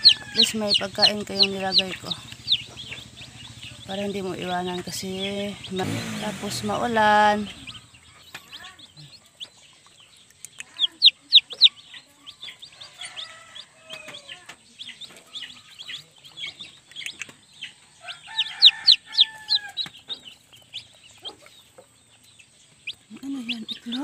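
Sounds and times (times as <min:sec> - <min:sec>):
chicks peeping: 0:00.0 - 0:24.0
hen clucking: 0:00.0 - 0:24.0.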